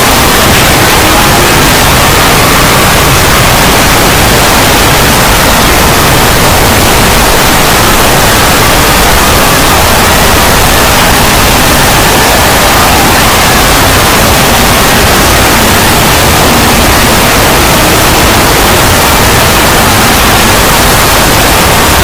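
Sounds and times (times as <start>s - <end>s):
distorted harsh noise: 0.0s - 22.0s.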